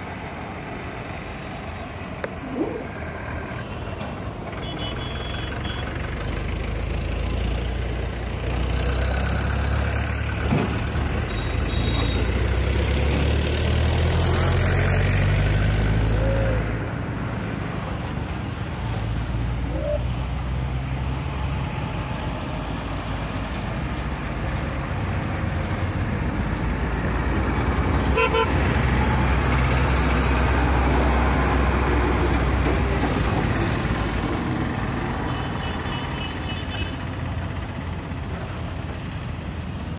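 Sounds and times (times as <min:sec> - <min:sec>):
road traffic: 0:00.0 - 0:39.9.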